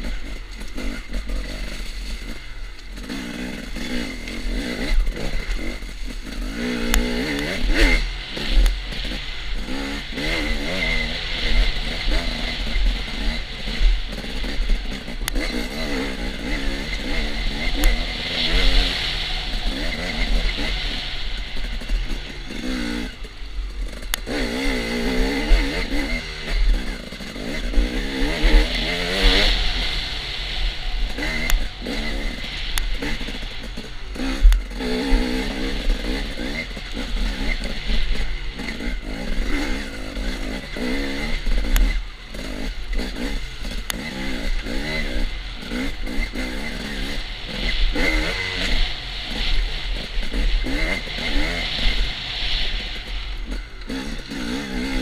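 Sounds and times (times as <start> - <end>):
dirt bike engine revving: 0.0 - 55.0
wind rumble on microphone: 3.8 - 55.0.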